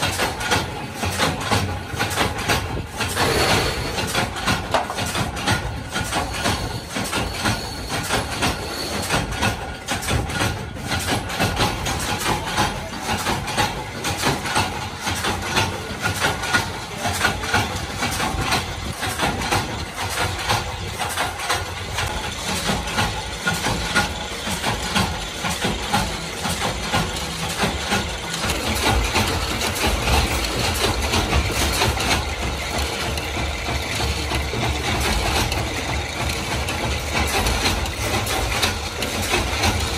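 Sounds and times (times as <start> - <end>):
machine metallic clatter: 0.0 - 39.9.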